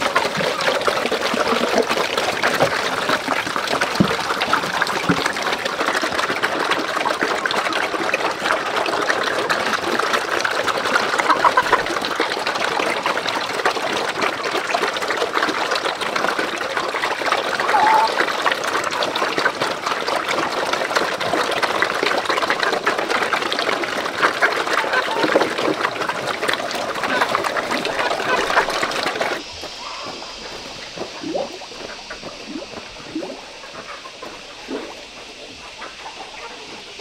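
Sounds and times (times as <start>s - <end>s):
pigs slurping and chewing feed: 0.0s - 37.0s.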